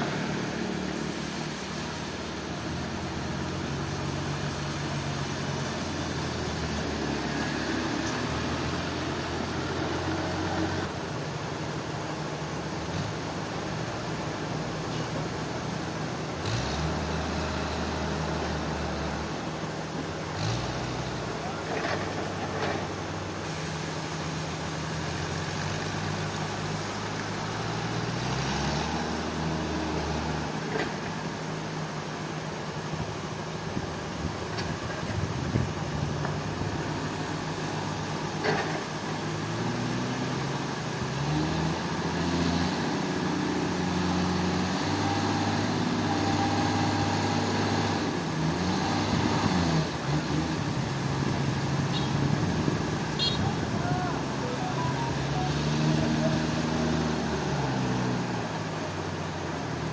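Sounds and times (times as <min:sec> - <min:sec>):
heavy machinery engine revving: 0:00.0 - 0:59.9.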